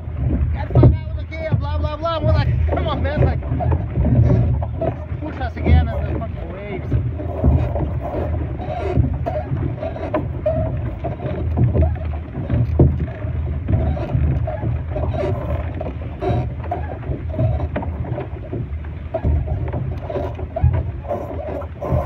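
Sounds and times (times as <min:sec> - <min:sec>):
water slapping against boat hull: 0:00.0 - 0:22.0
wind on microphone: 0:00.0 - 0:22.0.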